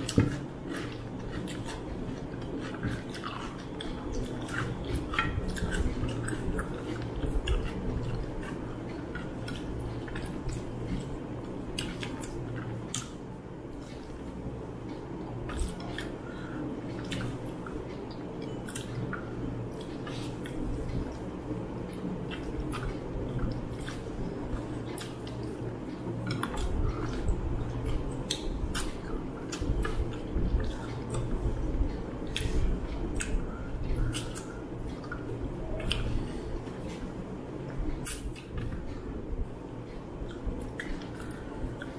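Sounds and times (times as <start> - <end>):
chewing and lip-smacking: 0.0 - 41.9
low steady hum: 0.0 - 41.9.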